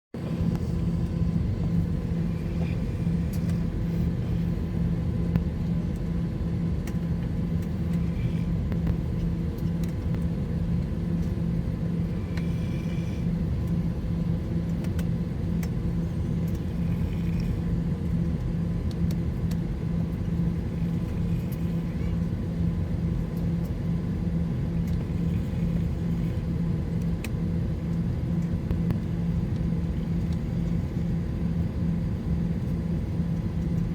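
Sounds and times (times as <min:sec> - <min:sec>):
airplane cabin hum and rumble: 0:00.1 - 0:33.9.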